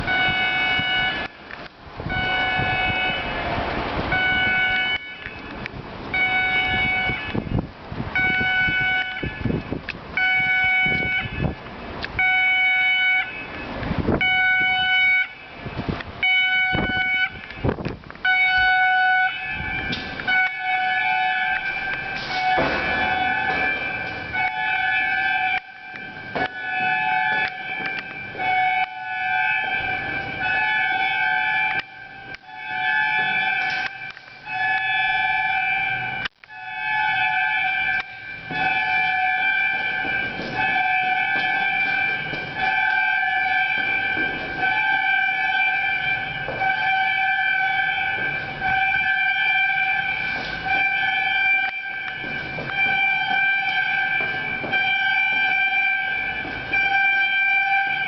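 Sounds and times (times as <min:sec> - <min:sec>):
pulsed electronic fire alarm: 0:00.0 - 0:01.3, 0:02.1 - 0:03.4, 0:04.1 - 0:07.6, 0:08.2 - 0:09.6, 0:10.2 - 0:11.6, 0:12.2 - 0:13.6, 0:14.2 - 0:15.6, 0:16.2 - 0:58.0.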